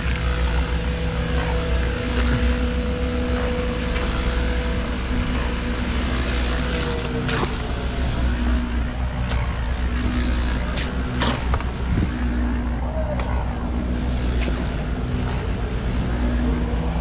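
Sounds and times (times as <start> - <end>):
engine running with deep rumble: 0.0 - 17.0.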